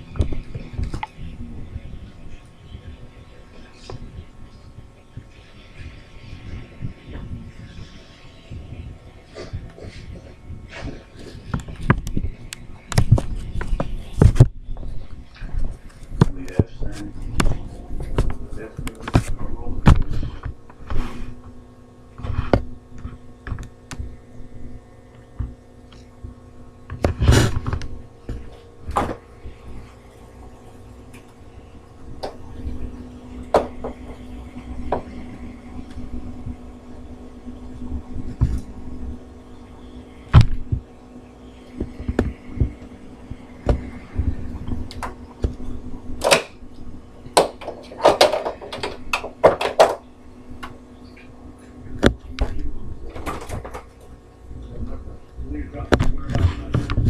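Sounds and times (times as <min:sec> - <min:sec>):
appliance electrical hum: 0:00.0 - 0:57.0.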